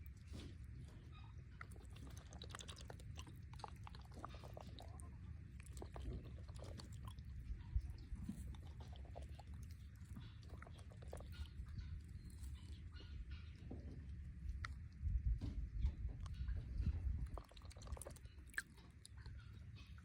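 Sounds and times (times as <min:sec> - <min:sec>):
turkey beak clicking and sipping: 0:00.2 - 0:13.6, 0:14.4 - 0:15.2, 0:16.2 - 0:20.0.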